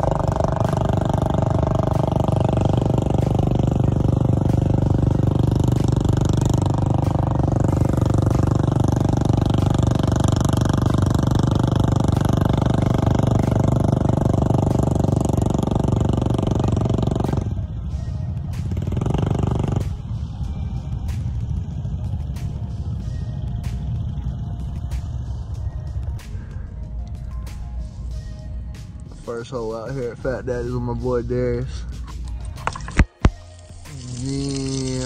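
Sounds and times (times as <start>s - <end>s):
atv engines running: 0.0s - 35.0s.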